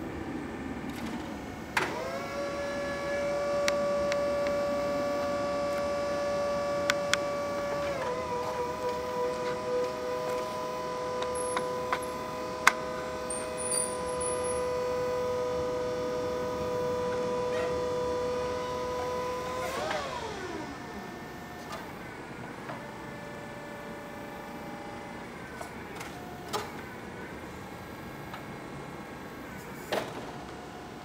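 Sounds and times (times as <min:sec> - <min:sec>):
hydraulic pump motor whining: 0:00.9 - 0:26.8.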